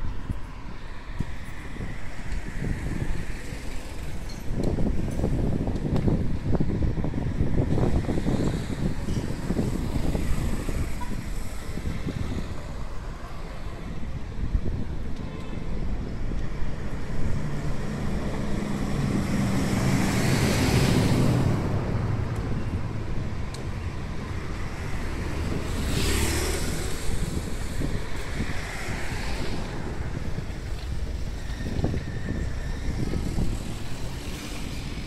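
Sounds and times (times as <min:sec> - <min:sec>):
street traffic: 0:00.0 - 0:35.0
wind noise on microphone: 0:00.0 - 0:35.0.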